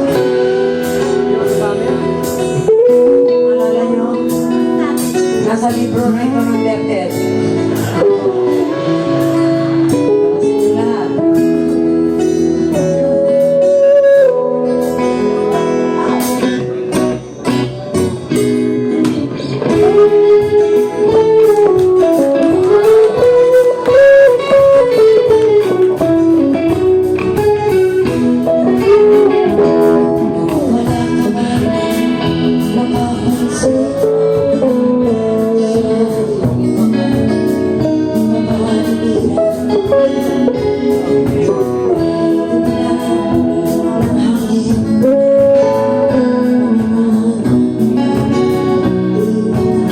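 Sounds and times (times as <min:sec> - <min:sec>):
acoustic band with guitars: 0:00.0 - 0:49.9.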